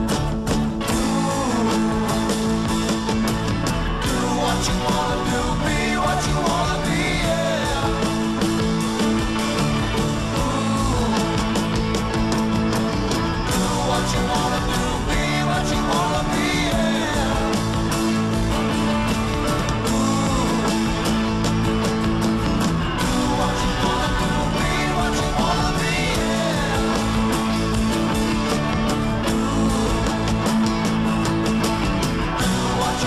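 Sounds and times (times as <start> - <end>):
rock song with singing: 0.0 - 33.0.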